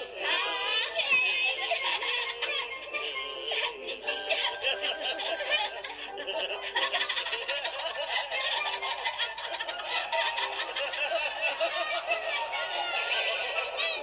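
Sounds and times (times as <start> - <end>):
giggling laughter: 0.2 - 14.0.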